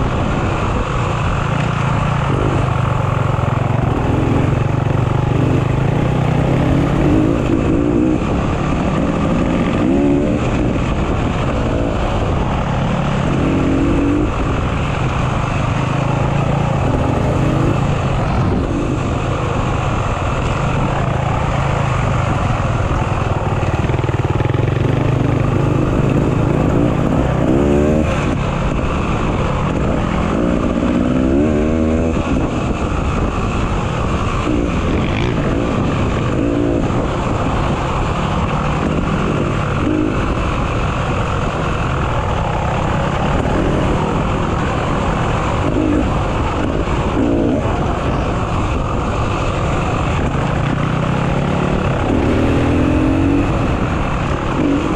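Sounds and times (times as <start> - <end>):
off-road motorcycle engine: 0.0 - 54.9.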